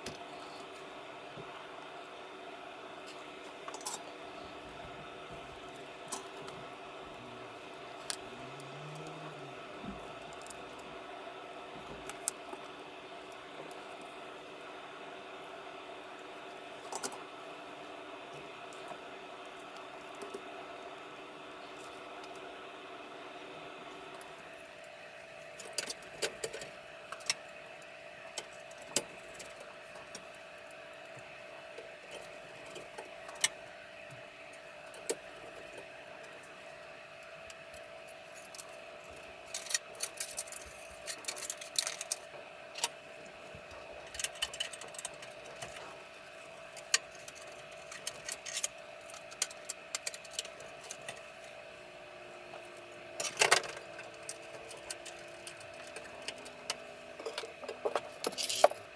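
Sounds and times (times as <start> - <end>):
faint steady whine: 0.0 - 58.9.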